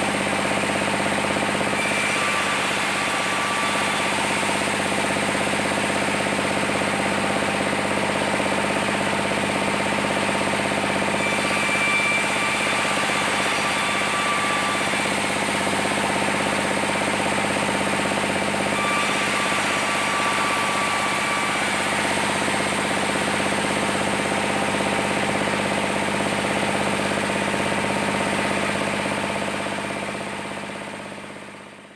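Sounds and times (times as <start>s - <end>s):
sawmill machinery hum: 0.0s - 31.9s
saw whine: 0.1s - 31.5s.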